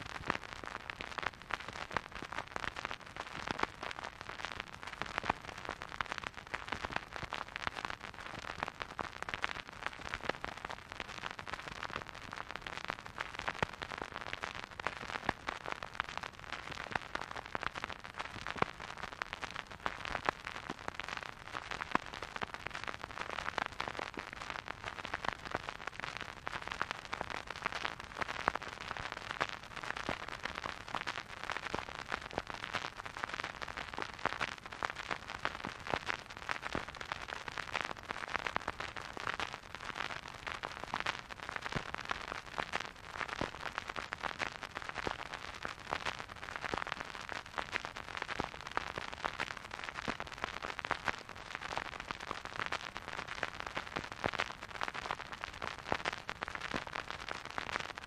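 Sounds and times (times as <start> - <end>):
vinyl record crackle and hiss: 0.0 - 58.0.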